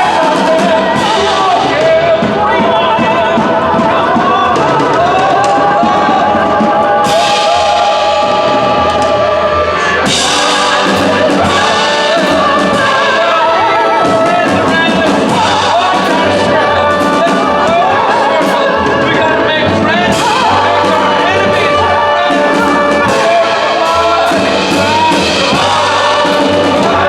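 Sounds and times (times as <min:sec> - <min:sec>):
choir singing: 0:00.0 - 0:27.0
drum hits: 0:00.0 - 0:27.0
live band playing: 0:00.0 - 0:27.0.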